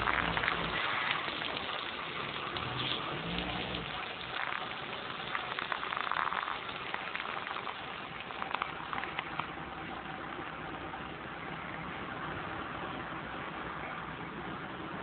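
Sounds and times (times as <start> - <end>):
fire crackling and hissing: 0.0 - 15.0.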